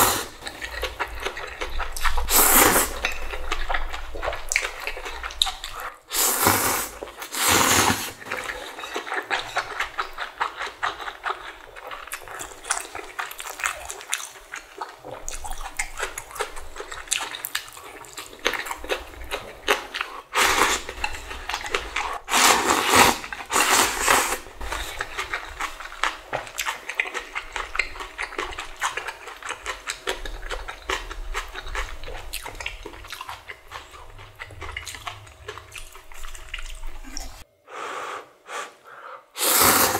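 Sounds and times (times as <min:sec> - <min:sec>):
noodles slurped: 0:00.0 - 0:03.2, 0:04.3 - 0:13.7, 0:18.5 - 0:37.4, 0:39.4 - 0:39.9
wet chewing: 0:00.0 - 0:06.0, 0:08.2 - 0:37.5.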